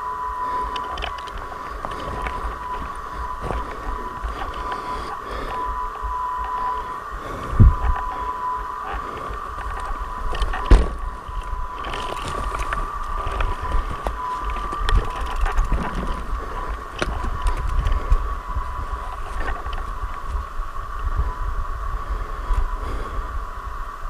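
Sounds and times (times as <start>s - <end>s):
thin high whine: 0.0s - 24.0s
wind rumble: 0.0s - 24.0s.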